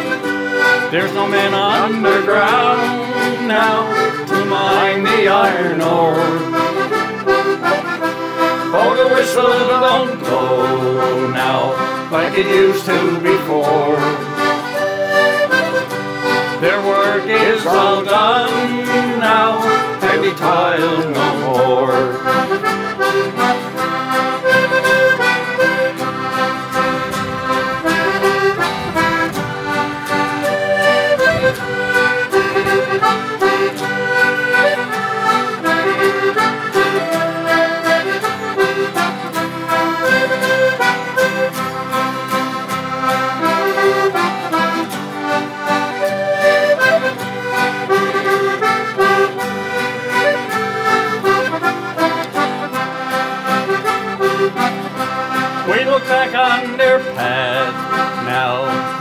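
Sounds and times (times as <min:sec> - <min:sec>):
button accordion playing tune: 0:00.0 - 0:59.0
mandolin: 0:00.0 - 0:59.0
strummed acoustic guitars: 0:00.0 - 0:59.0.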